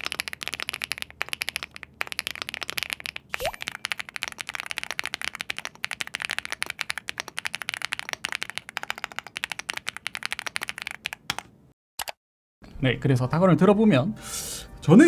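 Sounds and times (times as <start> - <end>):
mechanical keyboard typing: 0.0 - 12.2.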